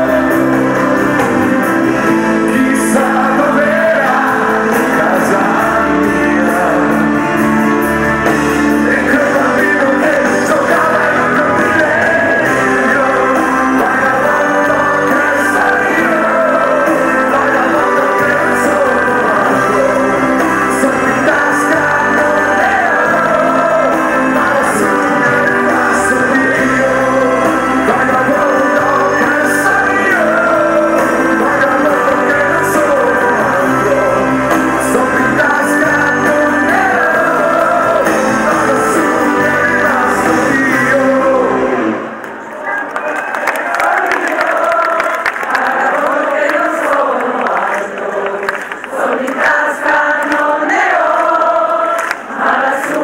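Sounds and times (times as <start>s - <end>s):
drums: 0.0s - 42.5s
electric guitars: 0.0s - 42.6s
person singing: 0.0s - 42.7s.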